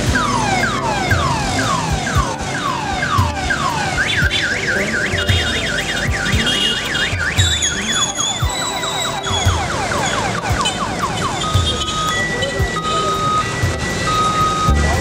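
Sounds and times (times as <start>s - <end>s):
electronic alarm siren: 0.0s - 15.0s
low thumps: 0.0s - 15.0s.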